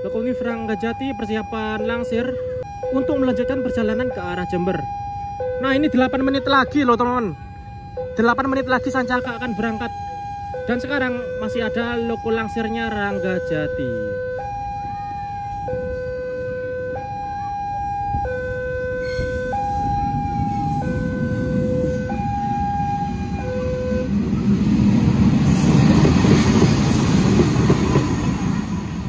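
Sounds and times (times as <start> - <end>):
two-tone electronic siren: 0.0 - 29.0.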